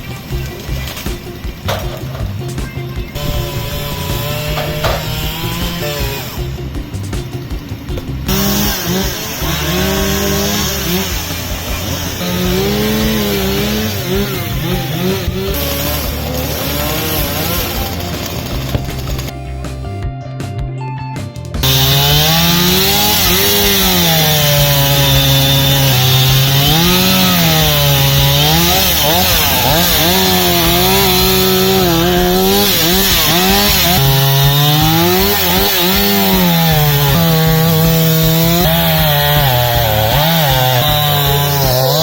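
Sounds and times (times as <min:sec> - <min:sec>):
chainsaw engine revving: 0:00.0 - 0:19.3, 0:21.6 - 0:42.0.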